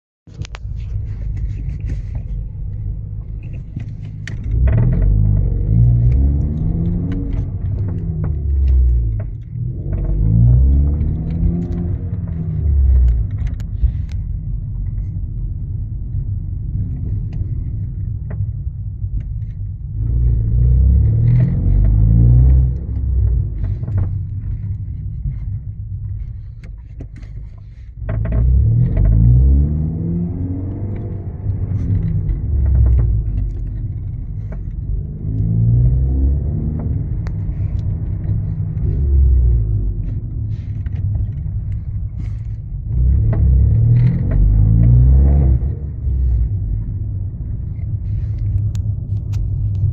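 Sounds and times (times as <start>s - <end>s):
car engine accelerating: 0.3s - 49.9s.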